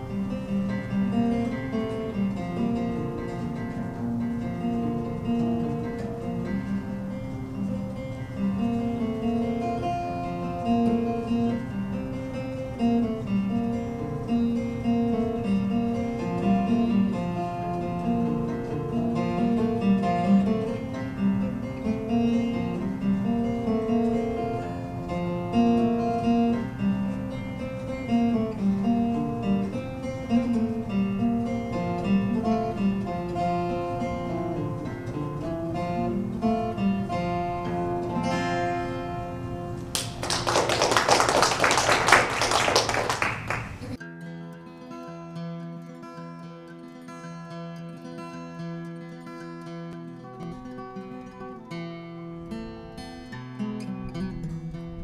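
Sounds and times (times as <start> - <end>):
solo acoustic guitar: 0.0 - 55.0.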